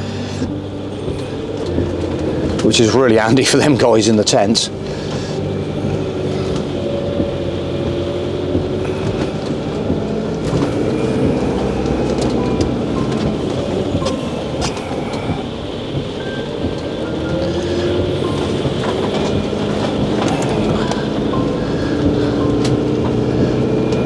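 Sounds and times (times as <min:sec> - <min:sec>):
motorhome engine running: 0:00.0 - 0:24.0
rain on windscreen: 0:00.0 - 0:24.0
road noise: 0:00.0 - 0:24.0.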